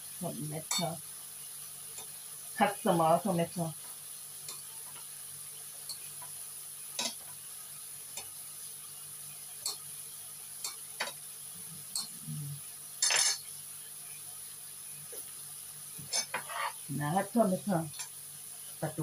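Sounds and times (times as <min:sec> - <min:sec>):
chili paste sizzling in a pan: 0:00.0 - 0:19.0.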